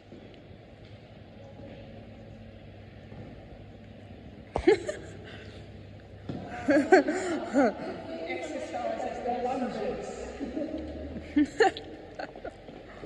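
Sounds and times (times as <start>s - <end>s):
faint background hum: 0.0s - 13.0s.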